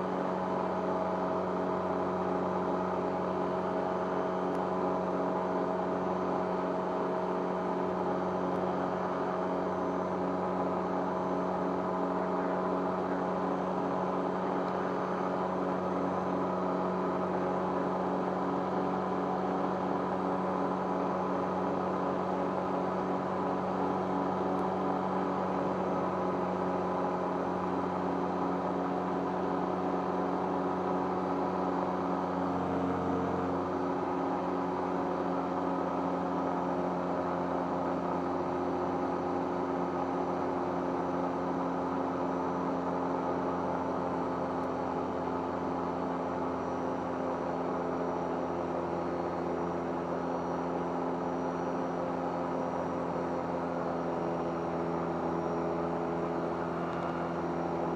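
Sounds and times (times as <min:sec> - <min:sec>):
aircraft engine running steadily: 0:00.0 - 0:57.9.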